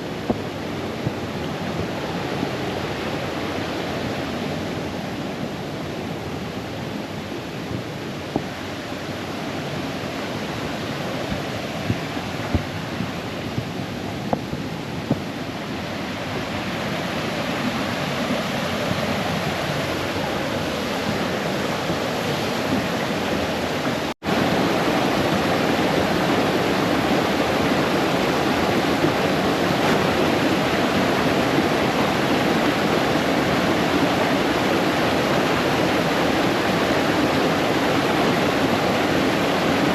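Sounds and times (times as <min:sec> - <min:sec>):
brook water rushing over stones: 0:00.0 - 0:39.9.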